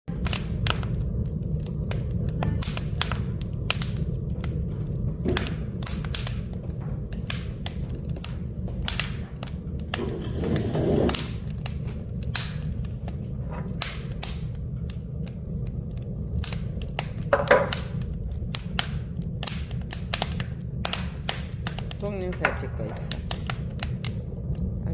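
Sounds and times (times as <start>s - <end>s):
low fire rumble: 0.1s - 24.9s
wood fire crackling and popping: 0.1s - 24.9s.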